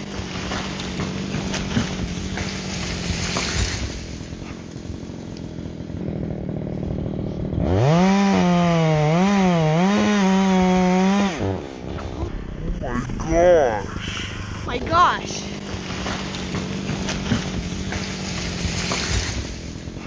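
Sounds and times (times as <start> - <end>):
chainsaw running and revving: 0.0 - 12.3, 14.7 - 20.0.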